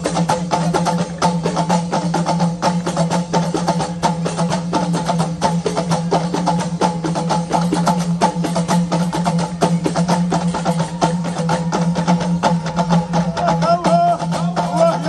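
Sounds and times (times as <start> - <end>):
hand drums: 0.0 - 15.0.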